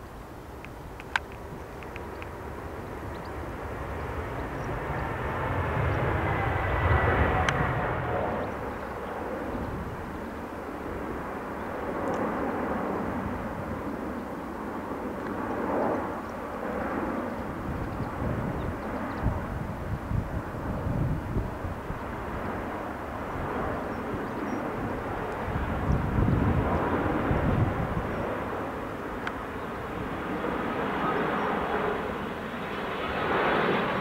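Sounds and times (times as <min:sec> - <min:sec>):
jet airliner flying past: 0:00.0 - 0:34.0.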